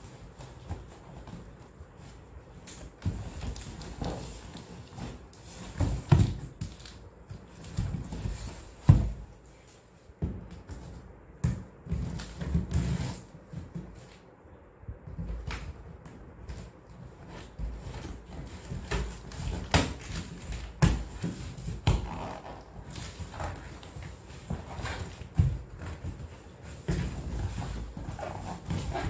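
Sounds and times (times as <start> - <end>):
cardboard scraping and rustling: 0.0 - 9.9, 11.8 - 14.2, 16.5 - 29.0.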